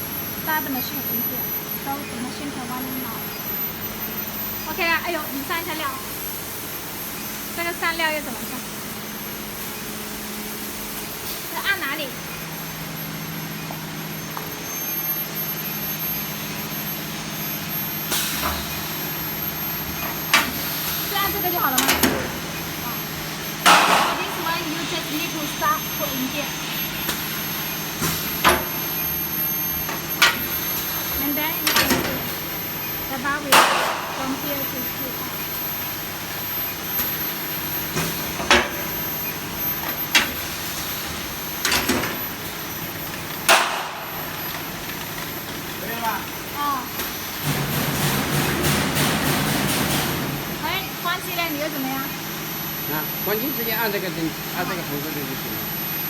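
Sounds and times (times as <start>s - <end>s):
furnace machine hum and hiss: 0.0s - 56.0s.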